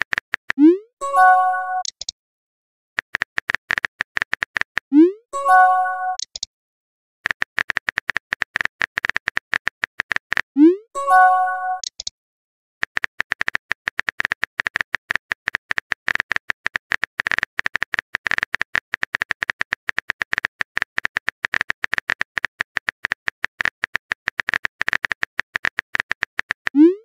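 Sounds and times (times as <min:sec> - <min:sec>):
phone keyboard typing clicks: 0:01.3 - 0:02.1, 0:03.0 - 0:04.9, 0:05.6 - 0:06.5, 0:07.2 - 0:10.5, 0:11.2 - 0:12.1, 0:12.8 - 0:26.9.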